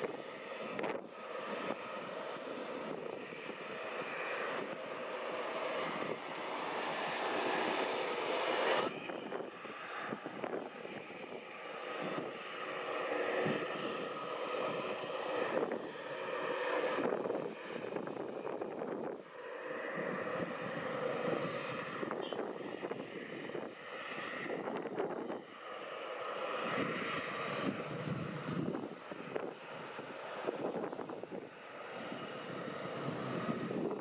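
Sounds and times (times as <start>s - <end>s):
jet engine whine: 0.0s - 34.0s.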